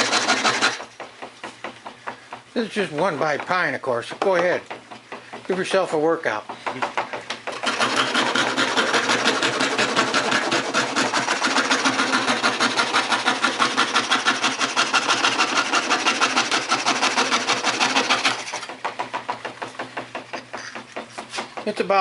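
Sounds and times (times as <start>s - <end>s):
scroll saw rasping through wood: 0.0s - 22.0s.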